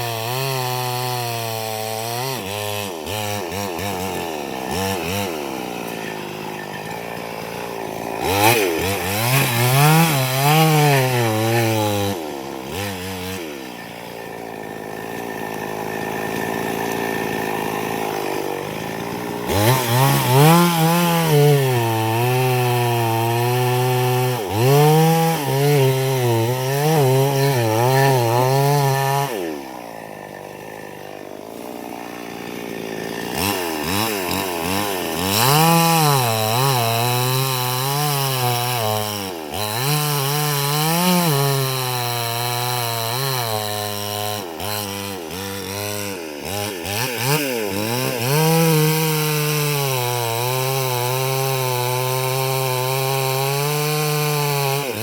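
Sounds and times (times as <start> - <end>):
chainsaw revving cutting wood: 0.0 - 55.0.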